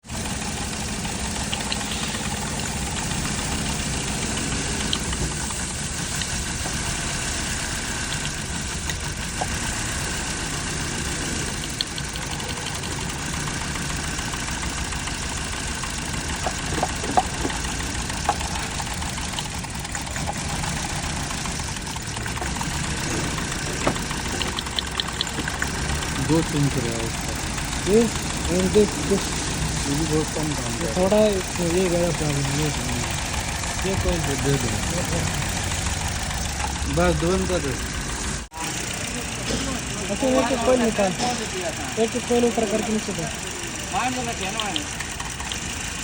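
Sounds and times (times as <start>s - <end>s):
car engine idling with misfire: 0.0s - 46.0s.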